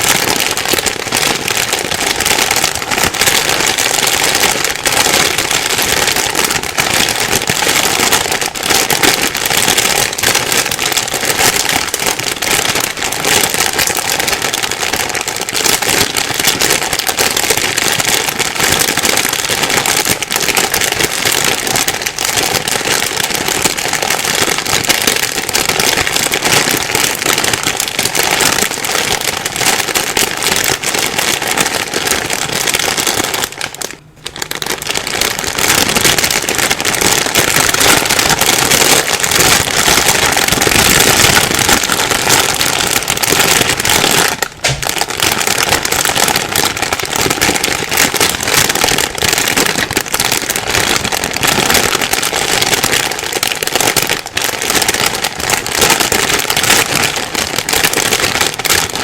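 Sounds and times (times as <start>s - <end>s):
plastic bag crumpling: 0.0s - 59.0s.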